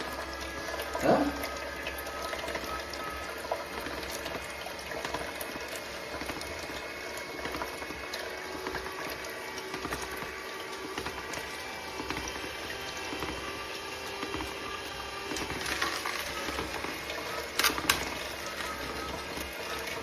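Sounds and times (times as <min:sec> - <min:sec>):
juicer running: 0:00.0 - 0:20.0
liquid gurgling: 0:00.0 - 0:20.0.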